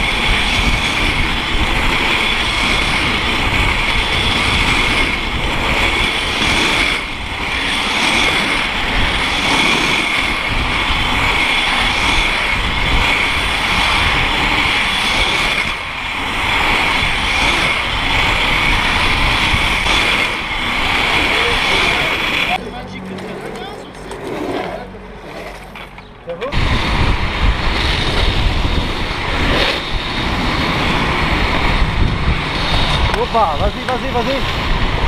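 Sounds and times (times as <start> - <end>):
wind rush on microphone: 0.0 - 22.6, 26.5 - 35.0
skate wheels rolling on asphalt: 0.0 - 35.0.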